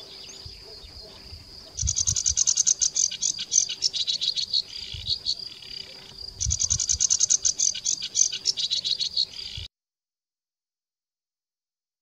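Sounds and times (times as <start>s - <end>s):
reed warbler singing: 0.0s - 9.7s.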